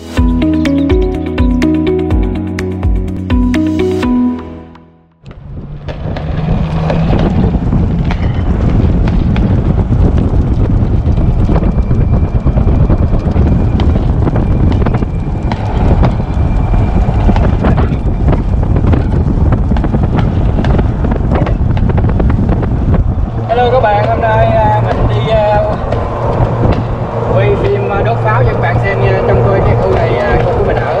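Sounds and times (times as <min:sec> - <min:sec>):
golf cart rumbling: 0:05.2 - 0:31.0
wind buffeting microphone: 0:05.2 - 0:31.0.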